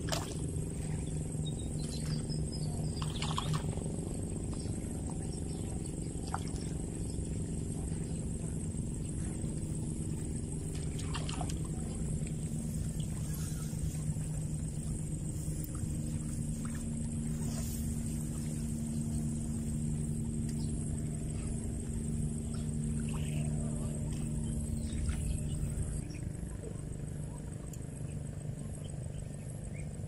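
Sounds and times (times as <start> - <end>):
motor humming: 0.0 - 29.9.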